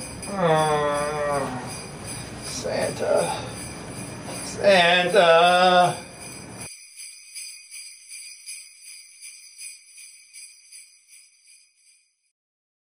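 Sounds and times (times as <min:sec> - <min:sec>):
sleigh bells shaken: 0:00.0 - 0:12.3.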